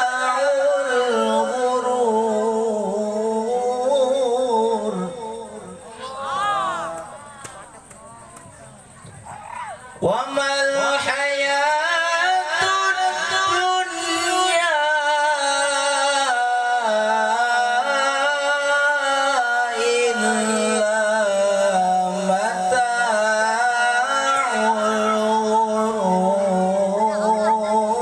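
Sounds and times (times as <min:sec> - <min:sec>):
young person reciting melismatic chant: 0:00.0 - 0:07.7, 0:09.8 - 0:28.0.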